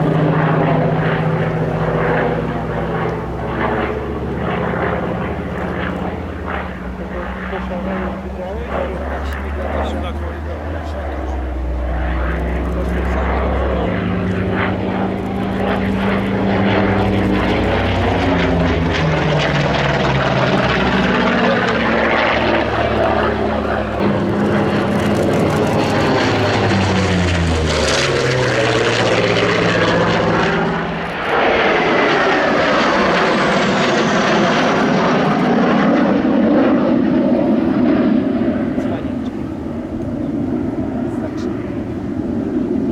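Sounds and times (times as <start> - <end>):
propeller airplane flying past: 0.0 - 42.9.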